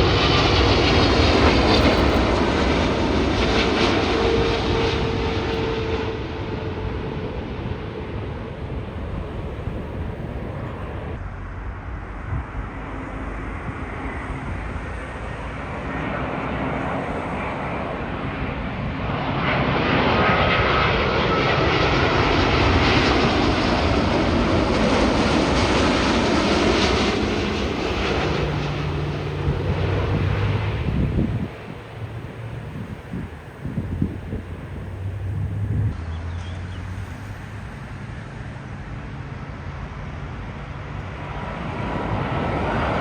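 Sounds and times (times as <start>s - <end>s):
jet airliner passing: 0.0s - 43.0s.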